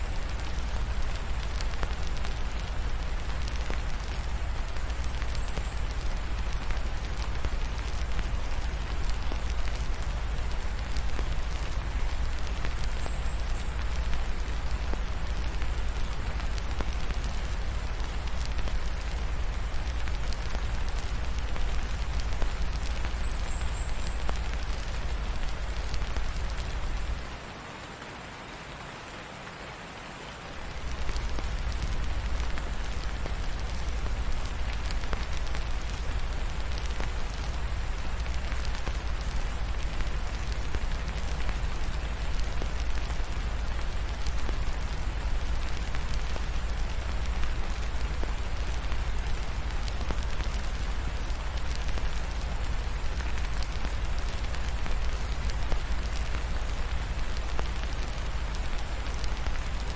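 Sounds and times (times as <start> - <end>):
faint fireplace crackles: 0.0 - 27.5, 30.2 - 59.9
rain falling steadily: 0.0 - 59.9.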